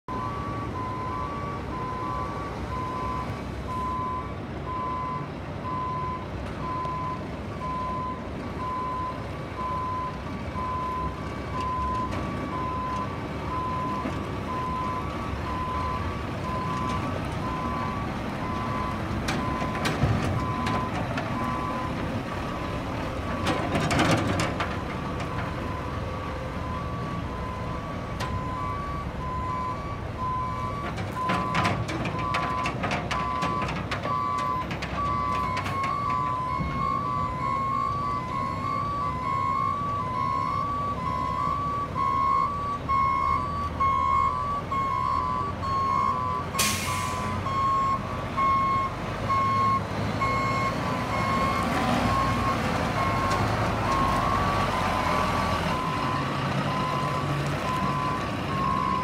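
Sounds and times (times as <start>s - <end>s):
diesel truck engine running: 0.1s - 59.0s
truck reversing alarm beeping: 0.1s - 59.0s.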